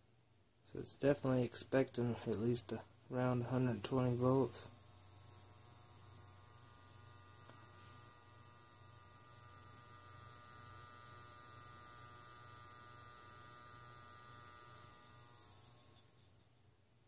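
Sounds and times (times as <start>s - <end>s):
faint electrical mains hum: 0.0s - 17.0s.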